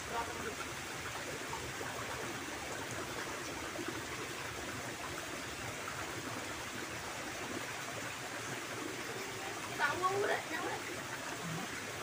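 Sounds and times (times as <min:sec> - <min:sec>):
stream flowing over stones: 0:00.0 - 0:12.0.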